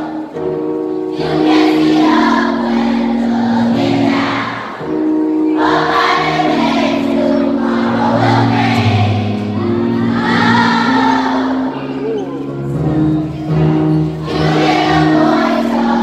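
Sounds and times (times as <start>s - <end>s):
children's choir singing: 0.0s - 16.0s.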